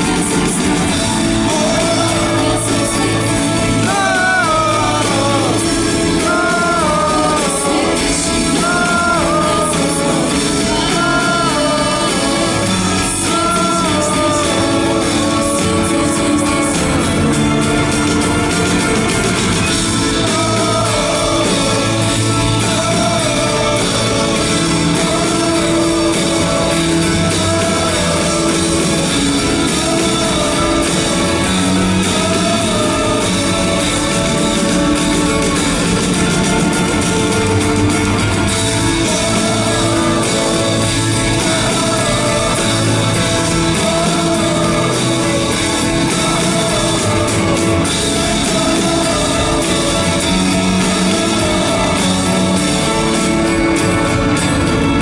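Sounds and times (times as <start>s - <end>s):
crowd singing along: 0.0s - 55.0s
live band playing: 0.0s - 55.0s.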